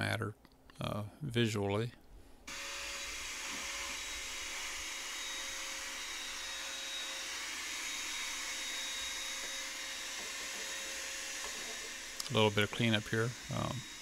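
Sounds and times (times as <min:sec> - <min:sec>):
vacuum cleaner running: 0:02.5 - 0:14.0.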